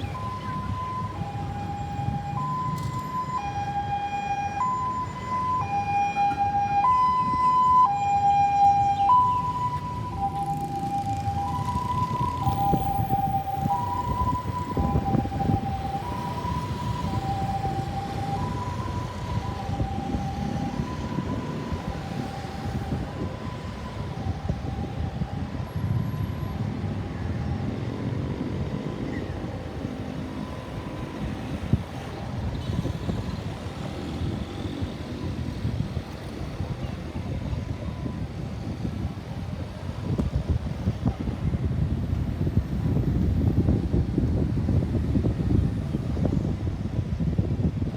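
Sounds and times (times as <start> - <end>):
two-tone ambulance siren: 0.0 - 41.9.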